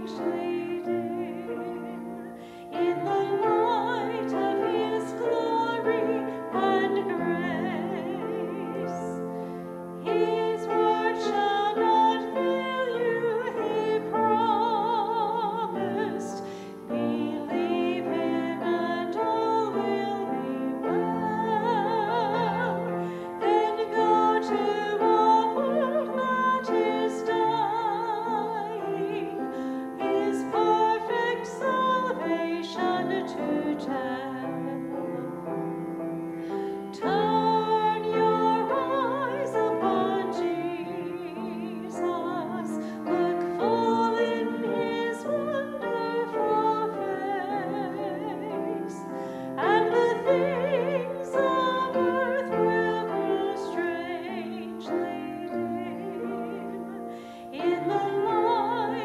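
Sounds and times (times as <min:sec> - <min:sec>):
person singing with vibrato: 0:00.0 - 0:35.8, 0:36.4 - 0:59.0
piano accompaniment: 0:00.0 - 0:59.0.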